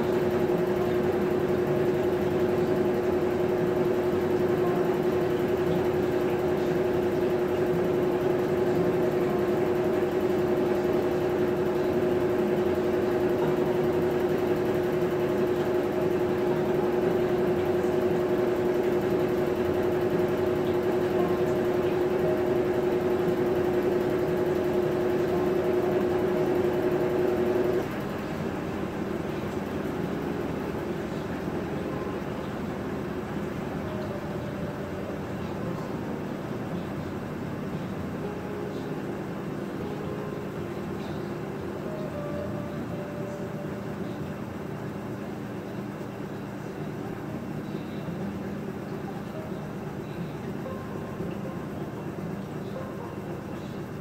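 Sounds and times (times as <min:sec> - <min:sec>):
faint steady hum: 0:00.0 - 0:54.0
washing machine motor hum: 0:00.0 - 0:54.0.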